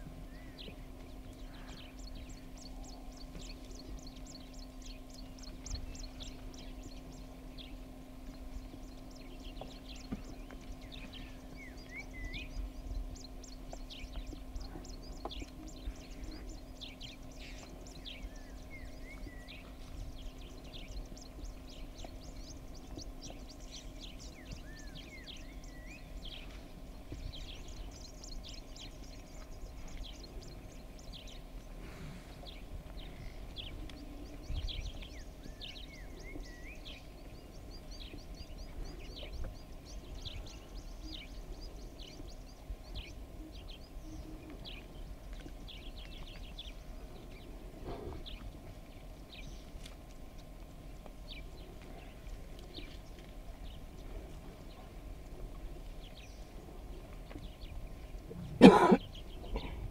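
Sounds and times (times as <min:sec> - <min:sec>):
birds chirping and calling: 0:00.0 - 0:50.5, 0:55.5 - 0:59.9
low hum and rumble: 0:00.0 - 0:59.9.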